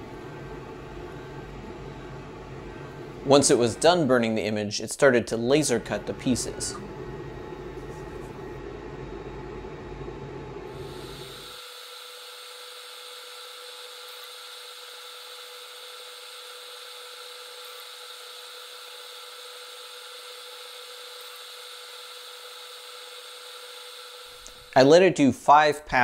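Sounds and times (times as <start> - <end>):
laser engraver hiss and hum: 0.0 - 4.5, 5.3 - 24.8.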